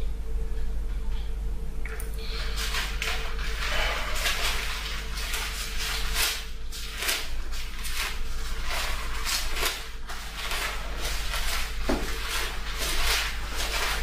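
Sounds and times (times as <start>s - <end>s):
low electrical hum: 0.0s - 14.0s
rustling handling noises: 2.3s - 14.0s.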